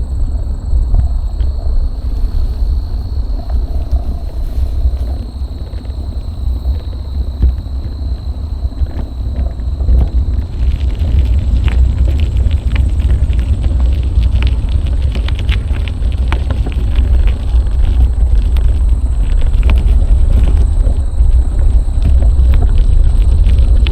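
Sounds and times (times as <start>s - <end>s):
faint high whine: 0.0s - 23.9s
wind rumbling on microphone: 0.0s - 23.9s.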